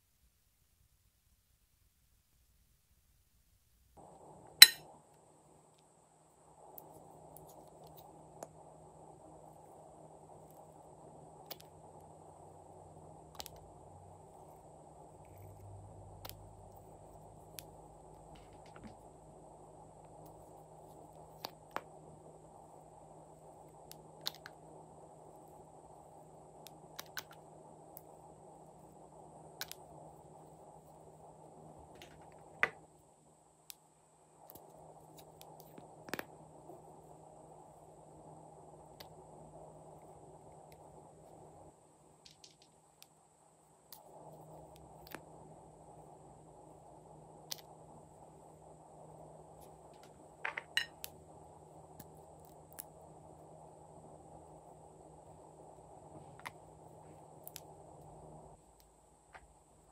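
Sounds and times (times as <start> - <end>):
faint steady hiss: 0.0 - 59.9
steady low hum: 3.8 - 59.9.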